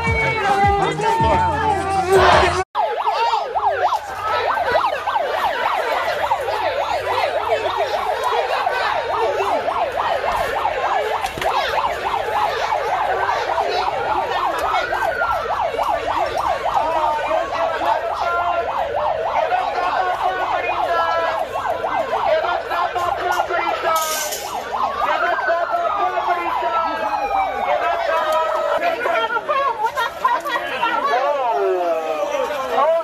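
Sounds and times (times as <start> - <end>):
siren wailing: 0.0 - 30.1
sirens yelping: 0.0 - 33.0.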